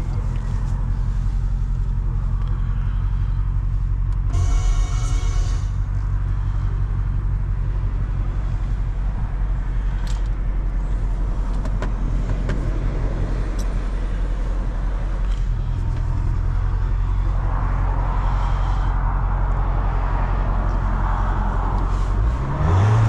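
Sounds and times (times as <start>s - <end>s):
car engine rumbling steadily: 0.0s - 23.0s.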